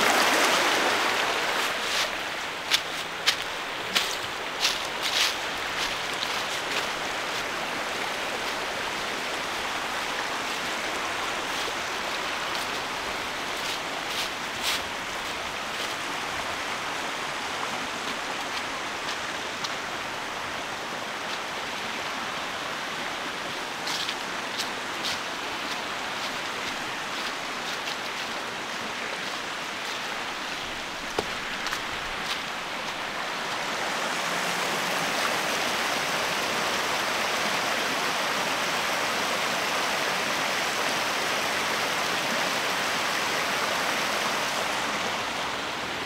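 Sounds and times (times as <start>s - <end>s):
stream rushing: 0.0s - 46.0s.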